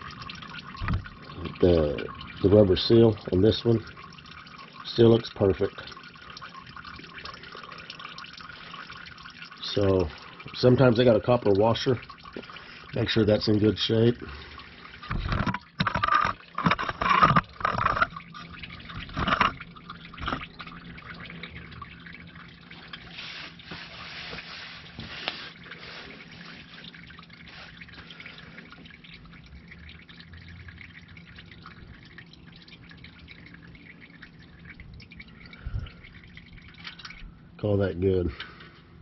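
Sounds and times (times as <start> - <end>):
oil trickling and dripping: 0.0 - 39.0.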